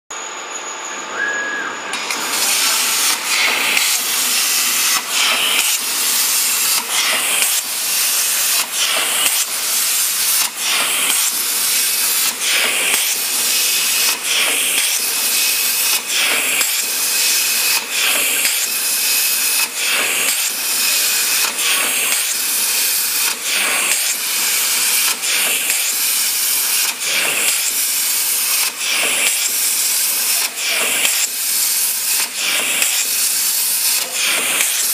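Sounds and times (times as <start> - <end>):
plasma cutter torch hissing: 1.2 - 34.9.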